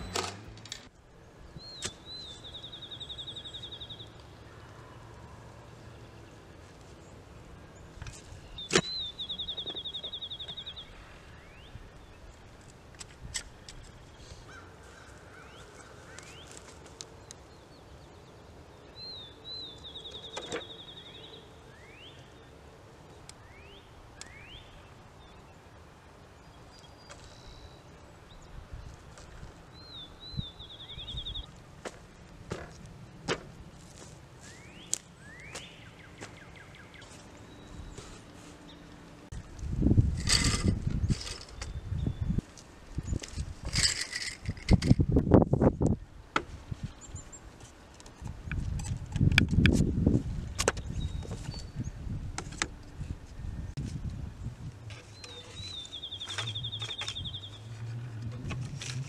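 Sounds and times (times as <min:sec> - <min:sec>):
songbird singing trill: 0:00.0 - 0:25.7, 0:26.3 - 0:31.6, 0:34.4 - 0:46.2, 0:46.8 - 0:47.5, 0:50.0 - 0:52.2, 0:53.3 - 0:59.0
birds chirping: 0:00.0 - 0:33.7, 0:34.3 - 0:48.7, 0:50.4 - 0:59.0.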